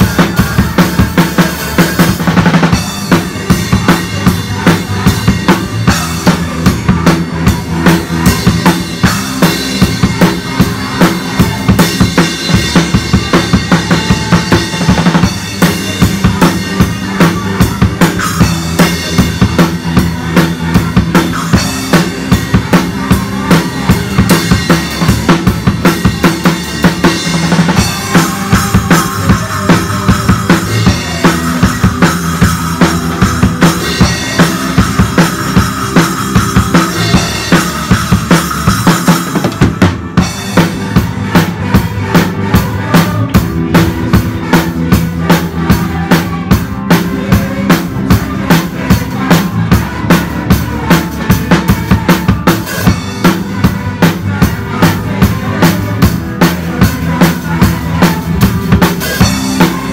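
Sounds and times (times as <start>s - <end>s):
band instruments: 0.0s - 59.9s
drum kit groove: 0.0s - 59.9s.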